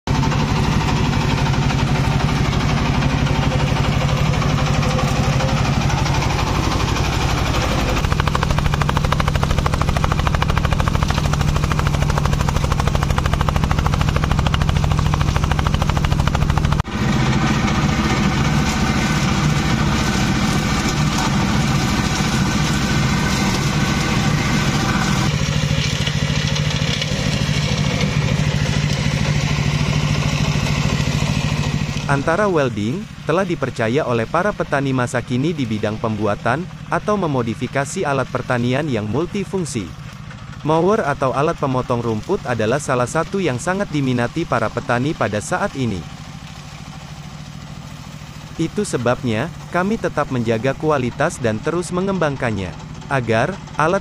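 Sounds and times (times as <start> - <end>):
brush mower engine running: 0.0 - 54.0.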